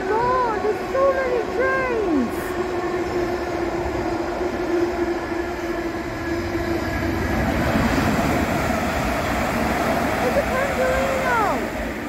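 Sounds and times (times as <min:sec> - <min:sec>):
train rolling noise: 0:00.0 - 0:12.0.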